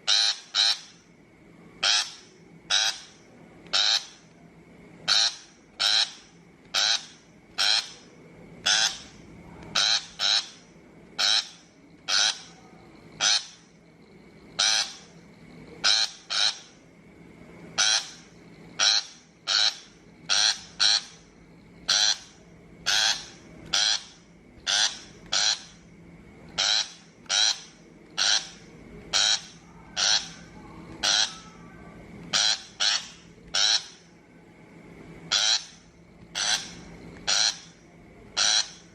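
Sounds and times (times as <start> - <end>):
shrike harsh calls: 0.0 - 1.1, 1.8 - 4.3, 5.0 - 13.8, 14.5 - 15.2, 15.8 - 16.8, 17.8 - 25.9, 26.6 - 34.1, 35.3 - 37.8, 38.4 - 38.9.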